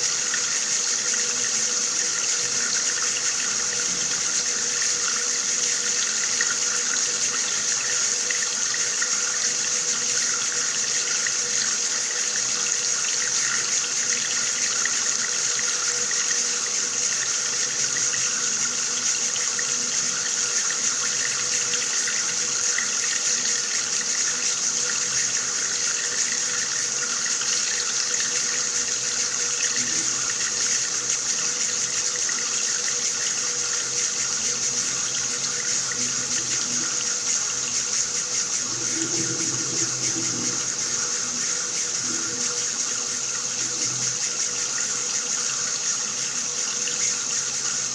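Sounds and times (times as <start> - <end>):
water running from tap: 0.0 - 47.9.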